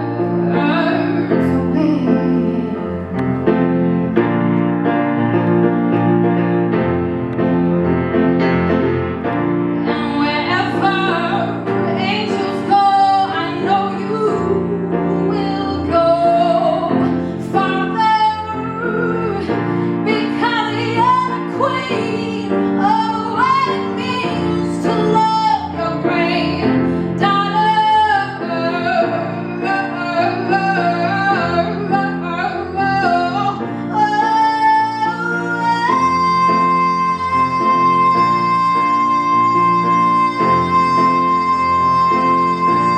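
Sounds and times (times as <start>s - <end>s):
woman singing a ballad: 0.0s - 3.2s, 9.8s - 42.9s
piano chords: 0.0s - 42.9s.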